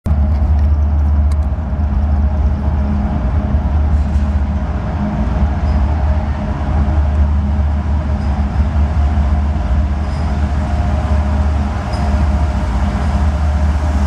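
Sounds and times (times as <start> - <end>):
locomotive diesel engines rumbling: 0.1 - 14.0.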